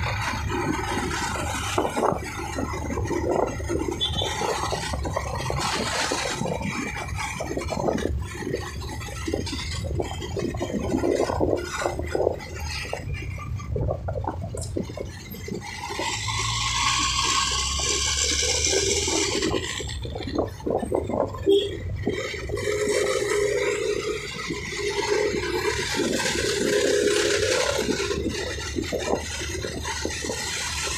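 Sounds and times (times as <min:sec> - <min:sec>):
motorcycle engine rumble: 0:00.0 - 0:30.9
wind buffeting microphone: 0:00.0 - 0:30.9.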